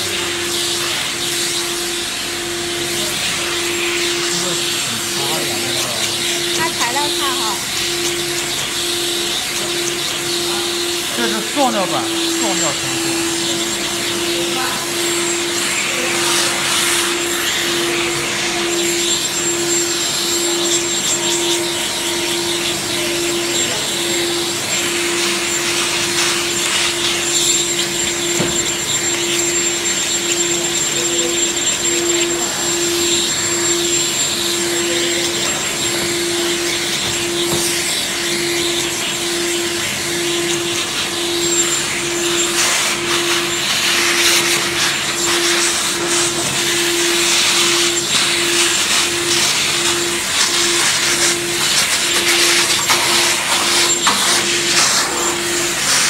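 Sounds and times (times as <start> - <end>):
pulsing low hum: 0.0 - 53.1
vacuum blower noise: 0.0 - 56.0.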